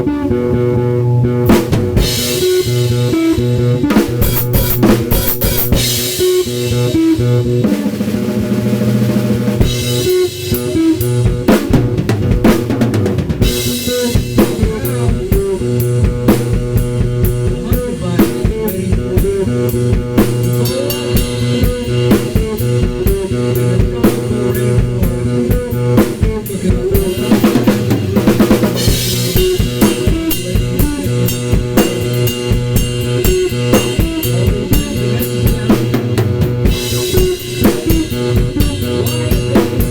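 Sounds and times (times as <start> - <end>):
bass drum: 0.0 - 39.9
steady held tones: 0.0 - 39.9.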